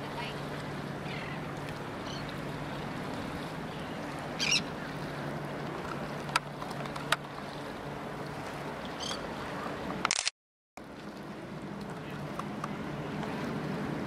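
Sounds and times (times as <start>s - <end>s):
water noise: 0.0s - 14.0s
wind: 0.0s - 14.0s.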